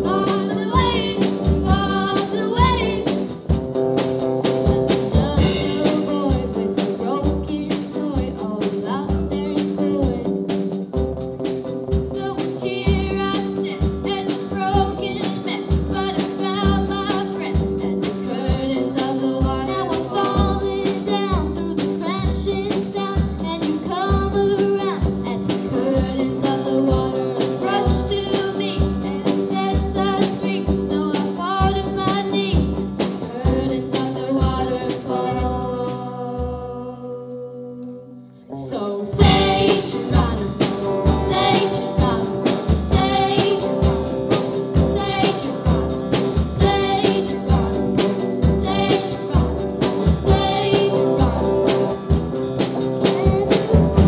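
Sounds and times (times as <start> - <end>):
girls singing lead: 0.0 - 3.2, 12.0 - 54.0
rock band playing live: 0.0 - 36.7, 39.0 - 54.0.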